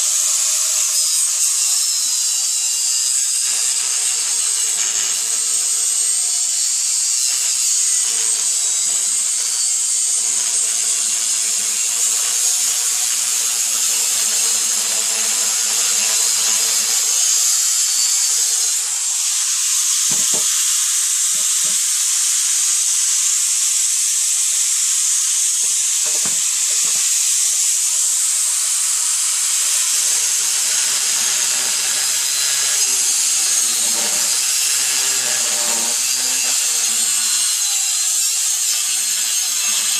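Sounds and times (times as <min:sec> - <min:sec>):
angle grinder cutting pipe: 0:00.0 - 0:39.9.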